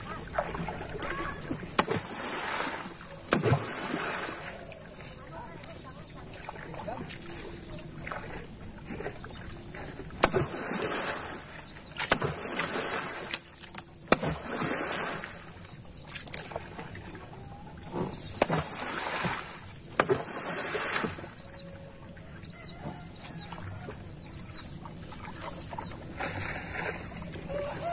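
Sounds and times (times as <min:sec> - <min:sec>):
pole smacking water: 0:00.0 - 0:21.6, 0:22.6 - 0:27.9.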